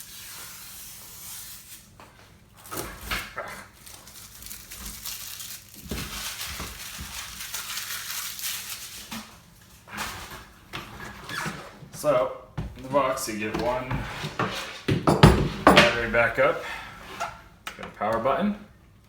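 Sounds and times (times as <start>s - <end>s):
cardboard and plastic packaging rustling: 1.7s - 18.2s.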